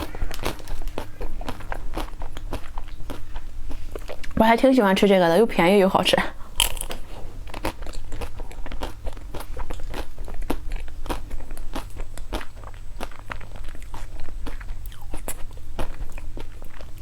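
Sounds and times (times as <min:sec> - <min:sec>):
crunchy snack chewing: 0:00.0 - 0:04.4, 0:06.5 - 0:17.0.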